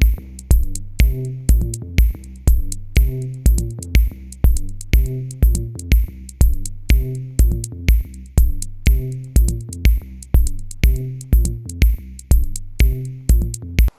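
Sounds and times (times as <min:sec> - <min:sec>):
electronic music with drum machine: 0:00.0 - 0:13.9.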